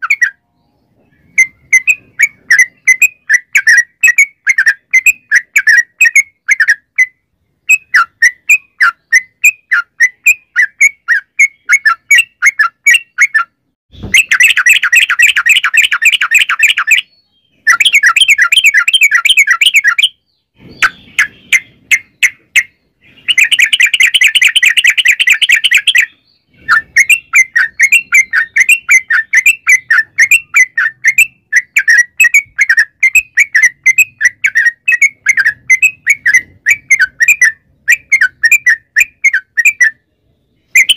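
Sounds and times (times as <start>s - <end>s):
bird chirping notes: 0.0s - 40.9s.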